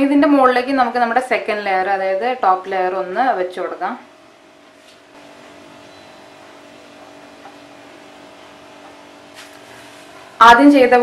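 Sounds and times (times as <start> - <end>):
steady hum of held tones: 0.0 - 11.0.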